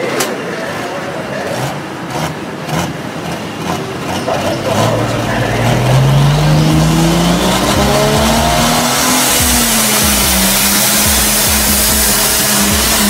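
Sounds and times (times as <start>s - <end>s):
tractor diesel engine revving: 0.7s - 13.0s.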